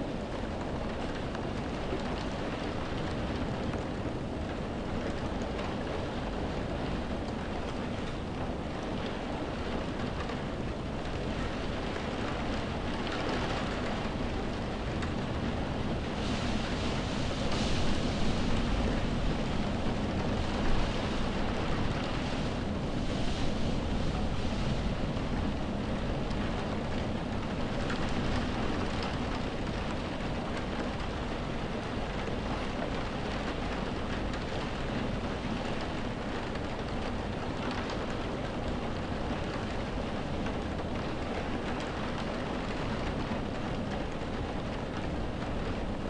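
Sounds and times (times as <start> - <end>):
rain hitting windows: 0.0 - 46.0
wind: 0.0 - 46.0.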